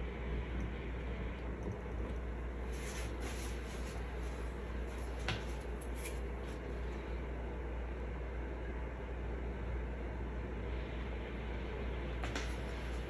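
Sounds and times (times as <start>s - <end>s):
room hum and hiss: 0.0s - 13.0s.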